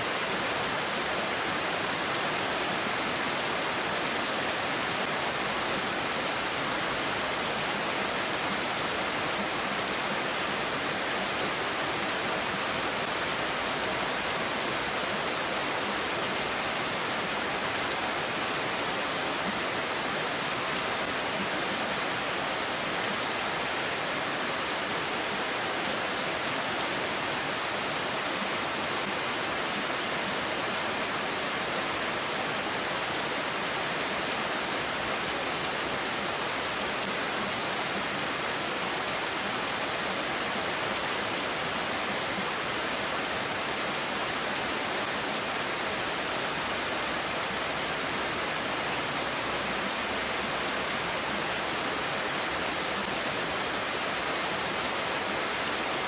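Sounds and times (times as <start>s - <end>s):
rain falling steadily: 0.0s - 56.0s.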